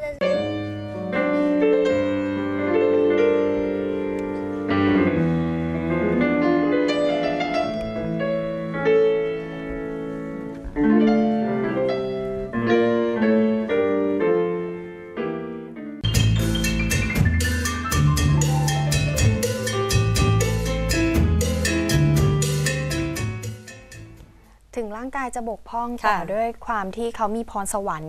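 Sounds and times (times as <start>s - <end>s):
solo piano playing: 0.2s - 24.2s.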